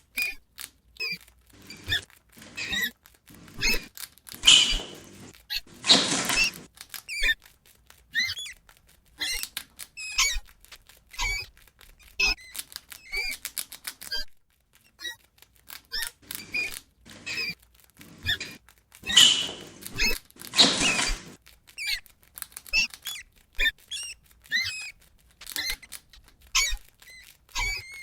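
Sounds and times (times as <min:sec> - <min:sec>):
rats squeaking: 0:01.0 - 0:28.0.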